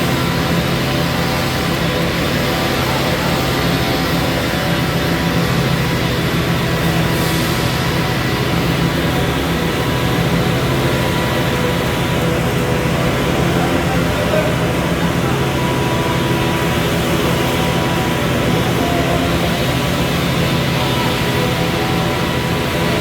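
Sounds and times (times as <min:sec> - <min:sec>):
machinery engine humming: 0:00.0 - 0:23.0.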